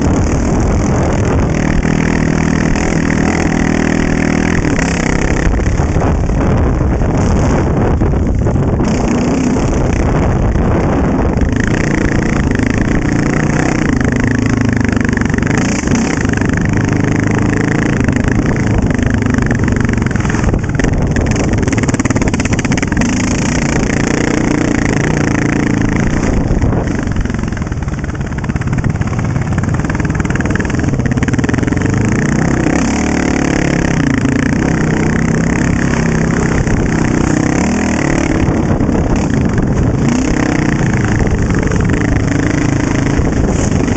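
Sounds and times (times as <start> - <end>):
quad engine revving: 0.0 - 43.9.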